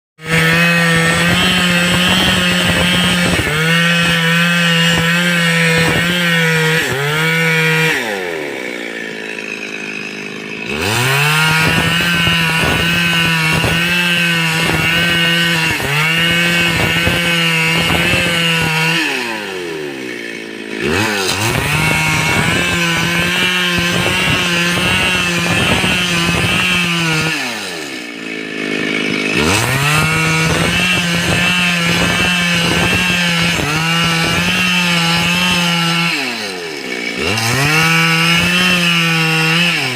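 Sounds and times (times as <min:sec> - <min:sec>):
chainsaw cutting wood: 0:00.2 - 0:39.9.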